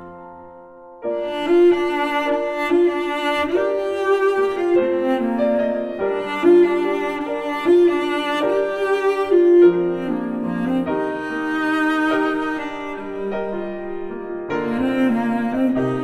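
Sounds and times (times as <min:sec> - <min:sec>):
bowed strings music: 0:00.0 - 0:16.0.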